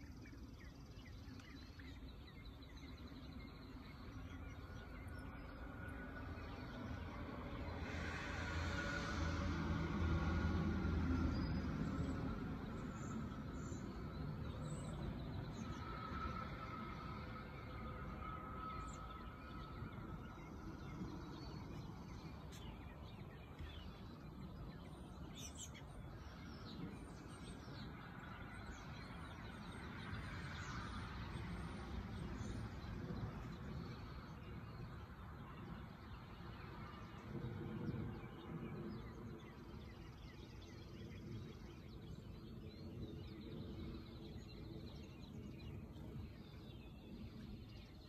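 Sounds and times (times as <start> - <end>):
low rumble: 0.8 - 48.0.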